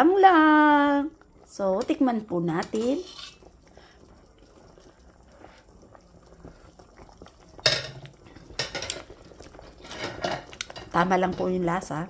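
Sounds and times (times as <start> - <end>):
soup bubbling in a pot: 0.0 - 12.0.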